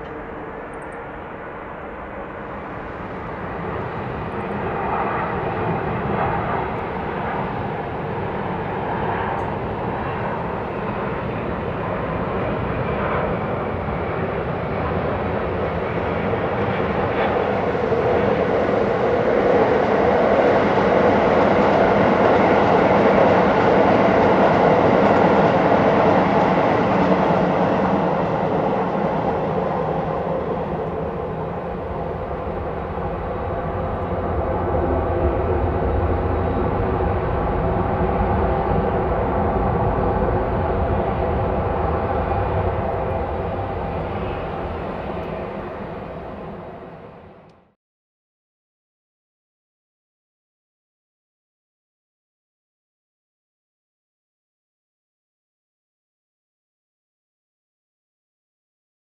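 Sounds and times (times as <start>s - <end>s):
jet engines roaring: 0.0s - 47.7s.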